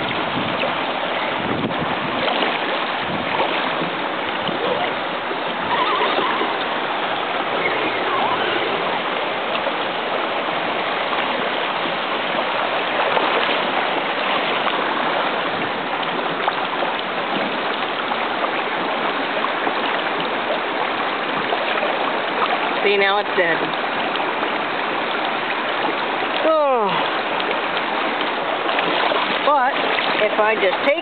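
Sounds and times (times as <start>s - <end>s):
creek rushing over rocks: 0.0s - 31.0s.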